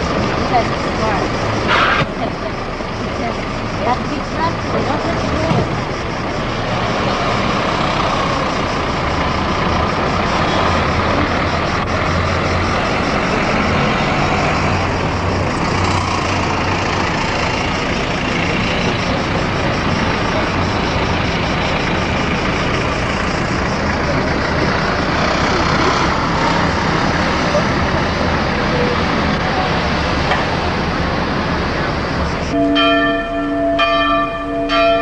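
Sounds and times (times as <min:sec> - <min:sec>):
city traffic noise: 0:00.0 - 0:35.0
low engine rumble: 0:00.0 - 0:35.0.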